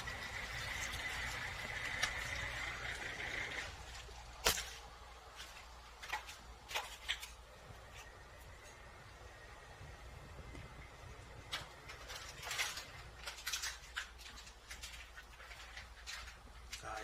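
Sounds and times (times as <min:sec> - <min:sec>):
washing machine whine and hum: 0:00.0 - 0:17.0.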